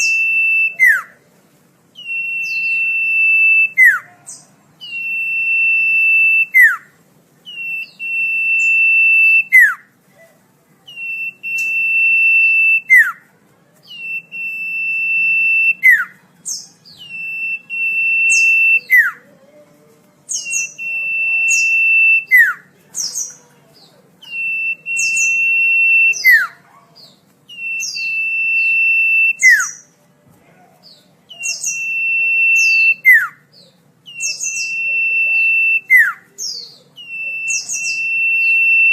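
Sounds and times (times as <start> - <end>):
high bird chirps: 0.0 - 1.1, 2.0 - 9.9, 10.9 - 13.2, 13.8 - 19.2, 20.3 - 30.0, 30.8 - 38.9
bird whistling song: 0.0 - 1.2, 1.9 - 9.9, 10.8 - 19.3, 20.3 - 23.4, 24.2 - 30.0, 30.9 - 38.9.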